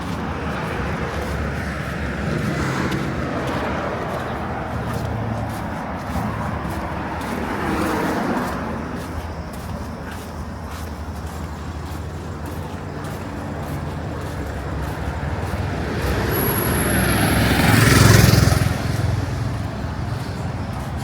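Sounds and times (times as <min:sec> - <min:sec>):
vehicle driving past: 0:00.0 - 0:09.7, 0:11.6 - 0:21.0
traffic rumble: 0:00.0 - 0:21.0.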